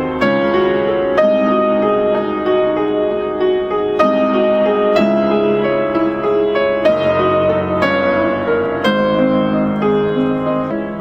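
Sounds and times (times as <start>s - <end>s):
slow piano film music: 0.0s - 11.0s.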